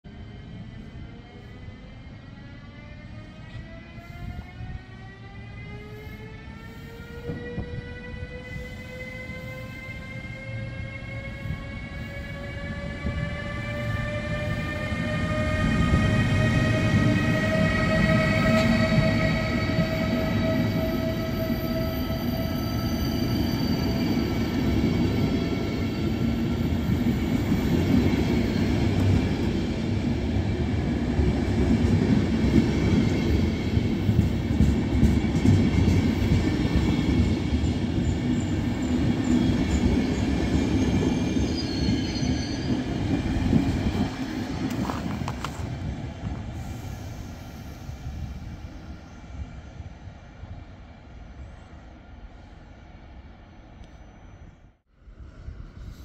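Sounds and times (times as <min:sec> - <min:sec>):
train wheels rumbling on rail: 0:00.1 - 0:49.8.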